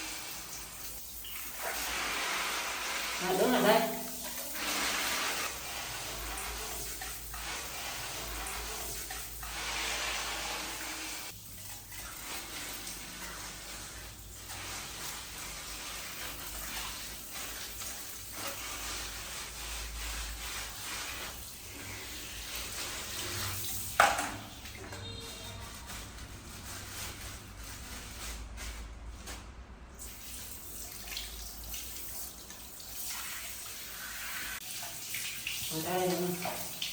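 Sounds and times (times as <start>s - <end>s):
tap water running and splashing: 0.0s - 36.9s.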